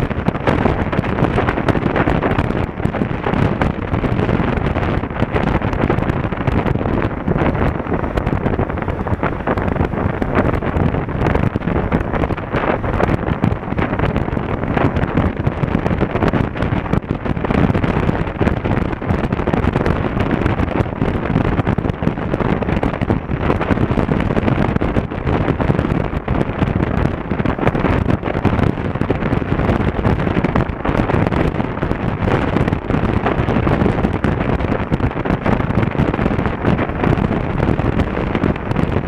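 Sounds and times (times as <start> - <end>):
motorcycle riding noise: 0.0 - 39.0
wind buffeting microphone: 0.0 - 39.0.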